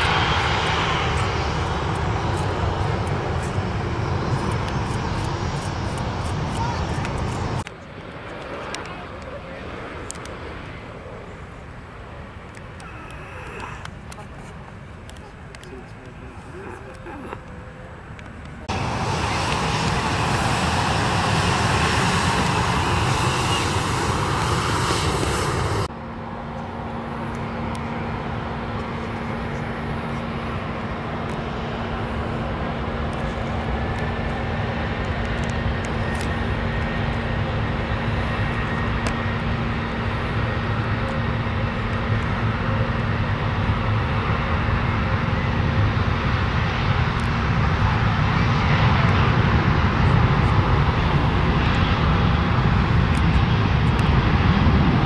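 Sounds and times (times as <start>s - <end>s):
jet engines at high power: 0.0s - 55.0s
jet engines humming on takeoff: 0.0s - 55.0s.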